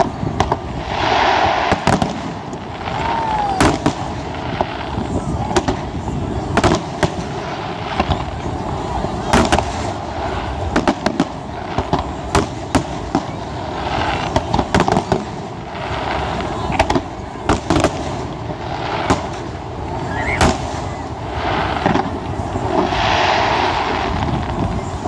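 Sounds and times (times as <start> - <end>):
continuous noisy background: 0.0 - 25.0
fireworks bursting with sharp bangs: 0.0 - 25.0.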